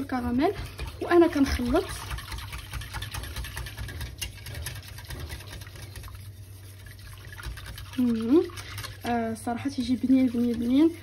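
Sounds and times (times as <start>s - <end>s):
whisk scraping metal saucepan: 0.0s - 11.0s.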